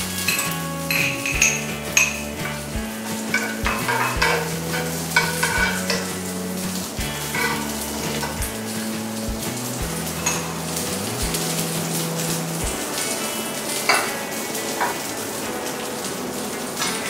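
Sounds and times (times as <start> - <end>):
sauce sizzling in frying pan: 0.0 - 17.0.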